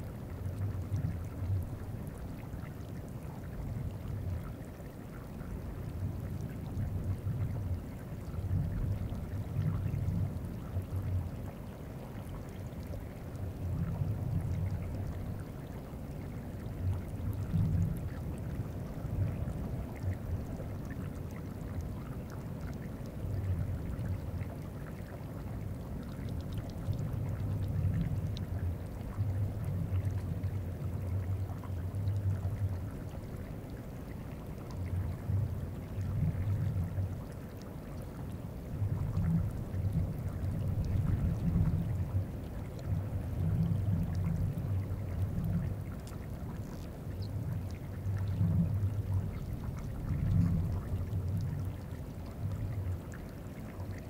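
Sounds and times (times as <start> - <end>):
faint trickle of meltwater: 0.0 - 54.0.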